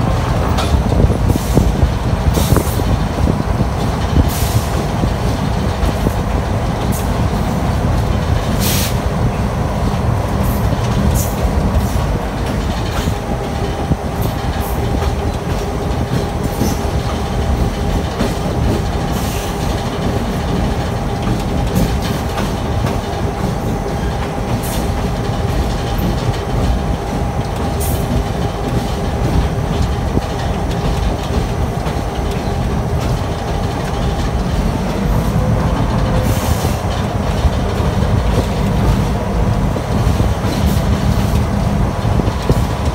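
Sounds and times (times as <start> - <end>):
locomotive low rumble: 0.0 - 42.9
wheels clicking on rails: 0.0 - 42.9.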